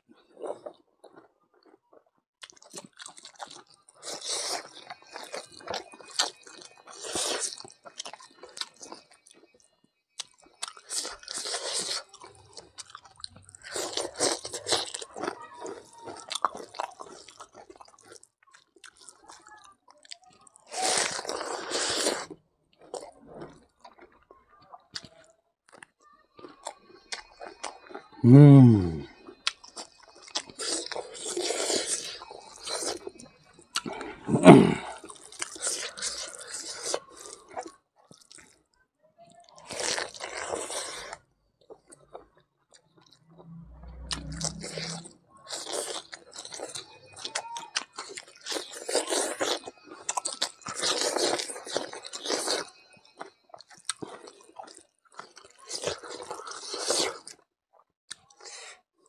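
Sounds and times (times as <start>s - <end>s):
chewing and crunching: 0.0s - 59.0s.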